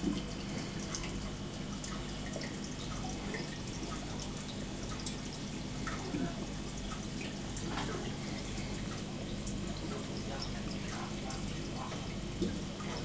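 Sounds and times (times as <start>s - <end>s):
air bubbles popping in water: 0.0s - 13.0s
steady low hum: 0.0s - 13.0s
trickling water: 0.0s - 13.0s.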